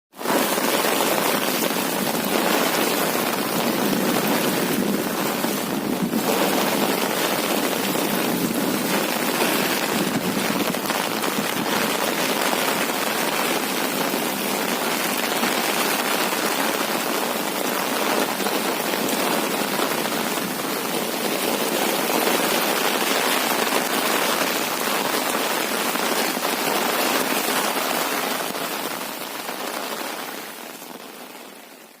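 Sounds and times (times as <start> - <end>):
steady rain falling: 0.1 - 32.0.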